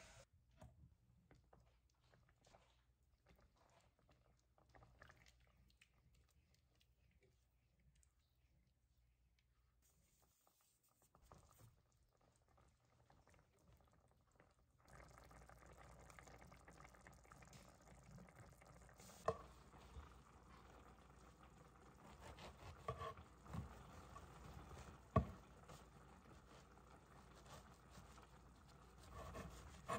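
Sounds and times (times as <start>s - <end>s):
sauce bubbling and popping: 1.0s - 9.2s, 11.1s - 29.9s.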